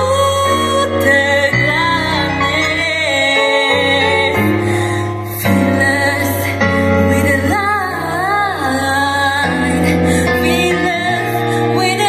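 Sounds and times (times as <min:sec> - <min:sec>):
music: 0:00.0 - 0:12.0
woman singing into a microphone: 0:00.0 - 0:12.0.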